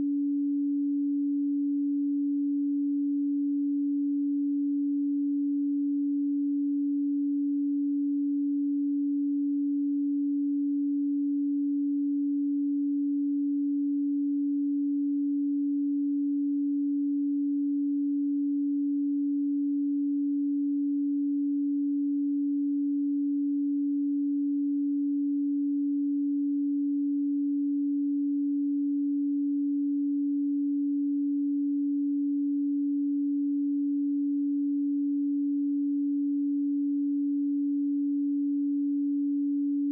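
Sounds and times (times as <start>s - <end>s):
pure sine tone: 0.0s - 39.9s.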